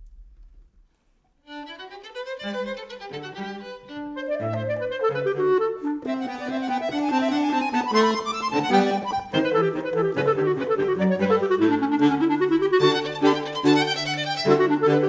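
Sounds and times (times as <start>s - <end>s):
chamber quartet playing: 1.5s - 15.0s.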